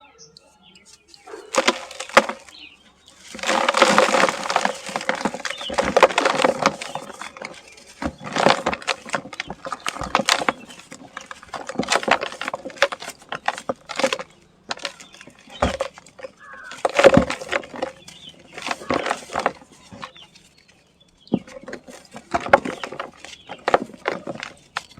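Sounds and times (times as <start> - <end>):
sand-cement chunks crumbling: 0.8 - 24.9.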